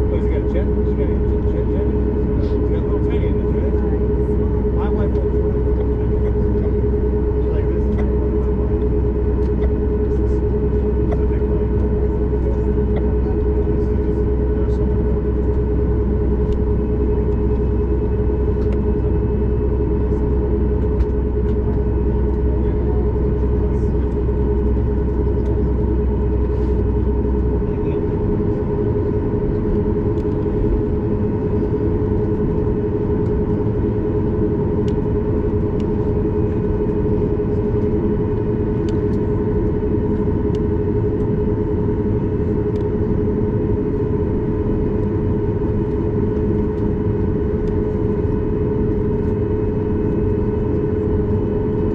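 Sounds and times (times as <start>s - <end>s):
airplane cabin engine hum: 0.0s - 51.9s.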